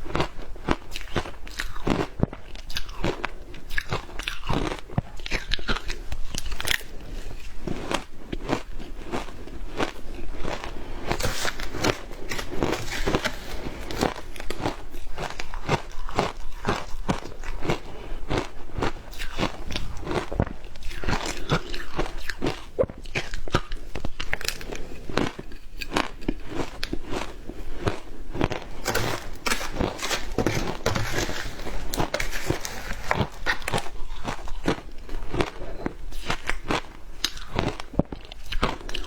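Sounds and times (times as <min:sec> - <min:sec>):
ice crunching when chewed: 0:00.0 - 0:39.0.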